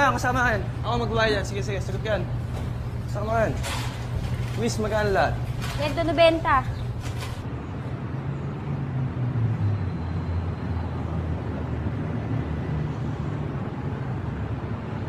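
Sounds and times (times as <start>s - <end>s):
road noise: 0.0s - 15.0s
vehicle engine rumbling: 0.0s - 15.0s.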